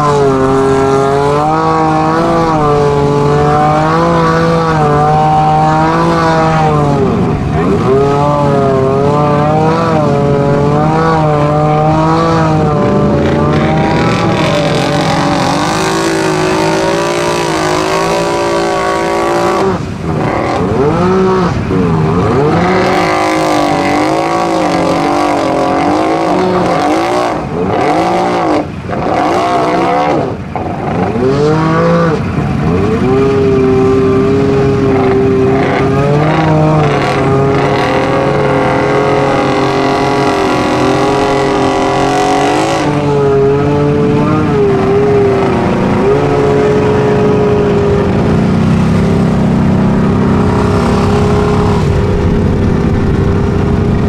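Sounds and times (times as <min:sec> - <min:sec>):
tires churning water: 0:00.0 - 0:54.0
utility vehicle engine revving: 0:00.0 - 0:54.0.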